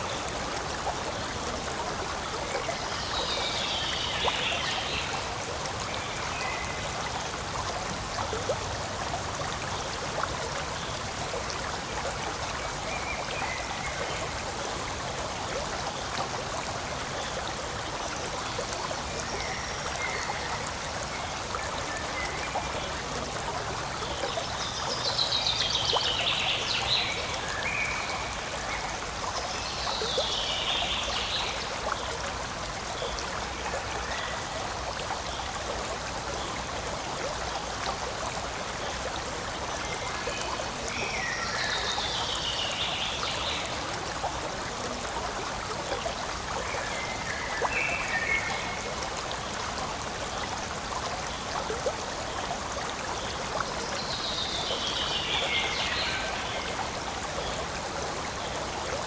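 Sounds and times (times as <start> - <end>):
stream rushing and trickling: 0.0 - 59.0.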